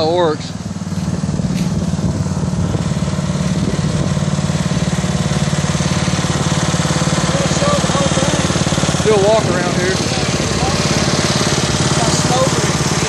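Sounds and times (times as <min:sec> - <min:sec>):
riding mower engine putter: 0:00.0 - 0:13.0.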